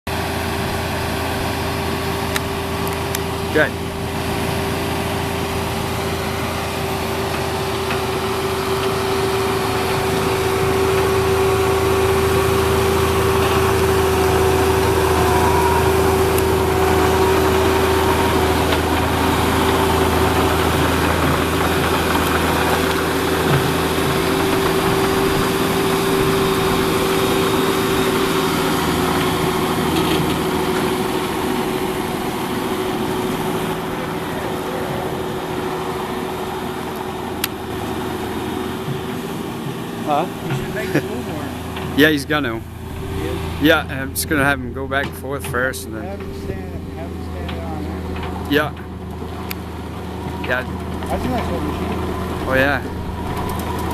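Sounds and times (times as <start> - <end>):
excavator diesel engine running: 0.1 - 53.9
steady hum: 1.3 - 53.9.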